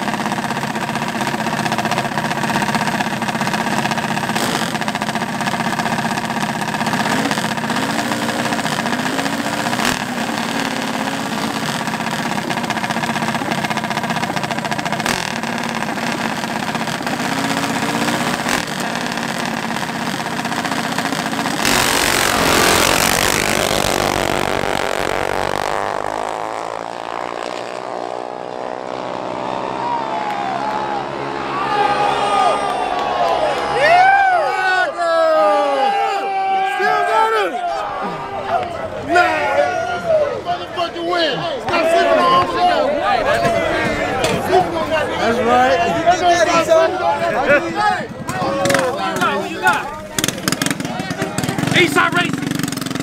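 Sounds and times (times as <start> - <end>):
rough engine noise: 0.0 - 34.3, 36.8 - 53.0
mini bike engines idling: 0.0 - 53.0.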